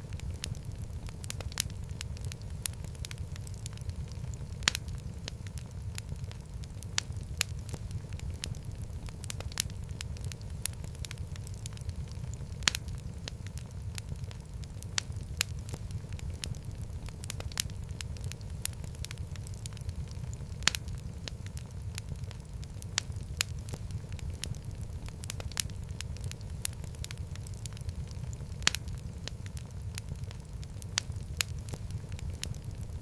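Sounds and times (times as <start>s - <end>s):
fire crackling and popping: 0.0s - 33.0s
rumble of flames: 0.0s - 33.0s.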